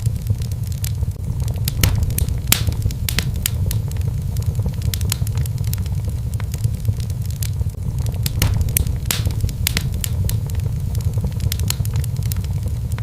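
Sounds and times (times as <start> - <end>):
low fire rumble: 0.0 - 13.0
wood fire crackling and popping: 0.0 - 13.0.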